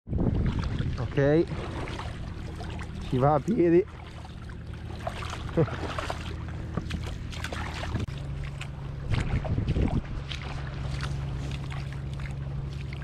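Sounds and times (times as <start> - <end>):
shallow water splashing and sloshing: 0.1 - 13.0
steady low hum: 0.1 - 13.0.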